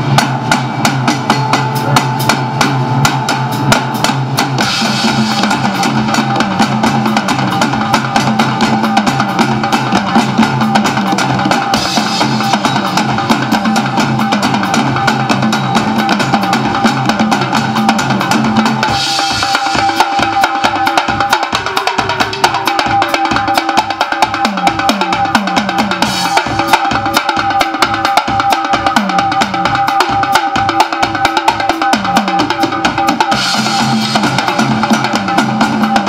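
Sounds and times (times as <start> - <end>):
band with drum kit playing: 0.0 - 36.0.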